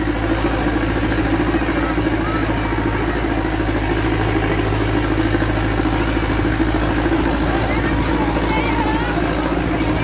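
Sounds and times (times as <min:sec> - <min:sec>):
crowd voices: 0:00.0 - 0:10.0
tractor diesel engine under load: 0:00.0 - 0:10.0.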